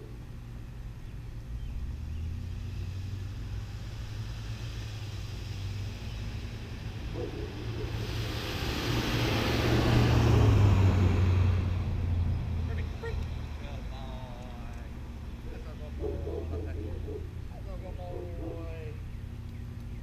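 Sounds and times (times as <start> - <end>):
steady low rumble: 0.0 - 20.0
vehicle driving past: 1.0 - 20.0.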